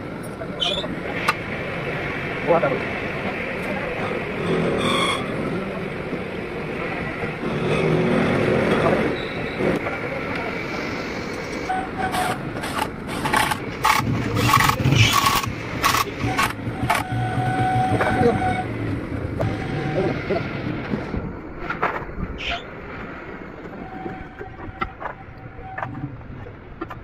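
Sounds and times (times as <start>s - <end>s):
workshop background: 0.0s - 27.0s.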